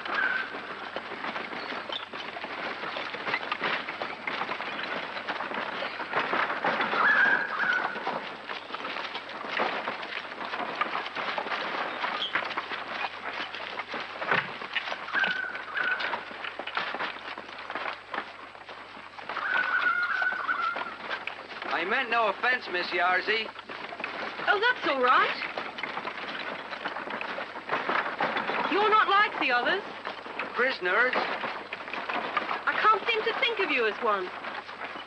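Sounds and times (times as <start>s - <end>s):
cart rattling over rough ground: 0.0s - 35.0s
hooves clattering: 0.0s - 35.0s.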